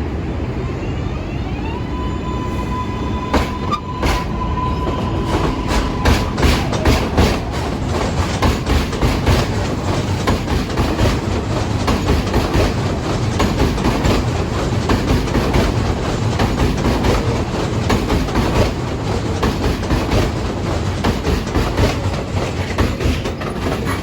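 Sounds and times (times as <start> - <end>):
rumble of train cars: 0.0 - 24.0
subway train wheels clattering: 0.0 - 24.0.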